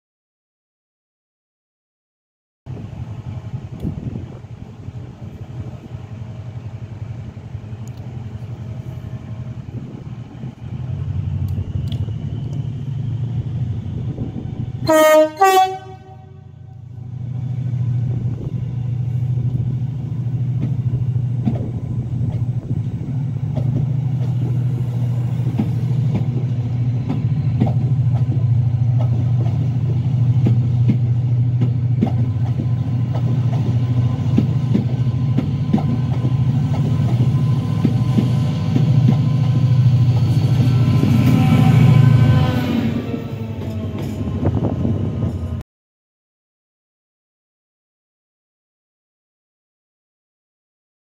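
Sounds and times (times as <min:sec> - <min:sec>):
train rumbling past: 0:02.7 - 0:45.6.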